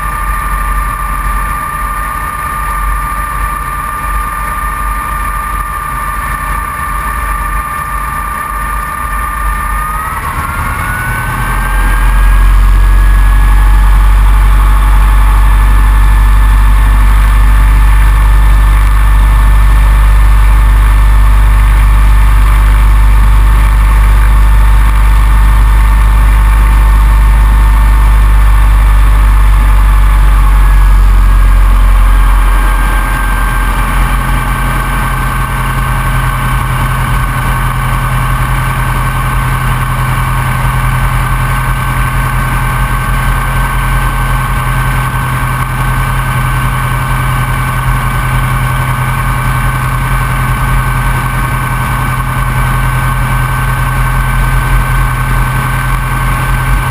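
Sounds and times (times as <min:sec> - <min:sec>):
biplane engine and propeller: 0:00.0 - 0:56.9.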